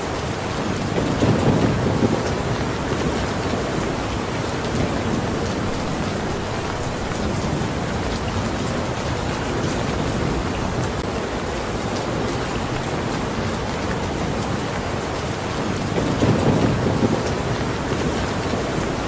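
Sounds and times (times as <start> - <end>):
heavy rain pattering: 0.0 - 19.0
raindrops ticking close by: 0.0 - 19.0.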